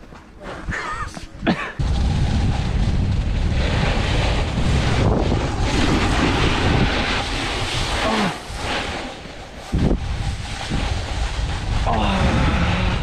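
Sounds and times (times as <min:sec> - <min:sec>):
snowboard scraping over snow: 0:00.3 - 0:13.0
wind on microphone: 0:00.5 - 0:13.0.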